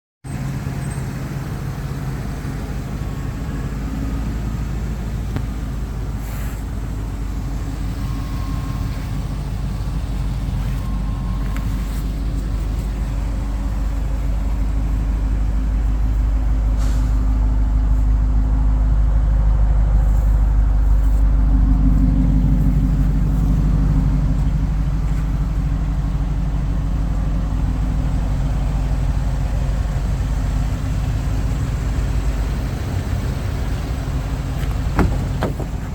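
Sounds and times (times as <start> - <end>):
car engine droning: 0.3 - 35.9.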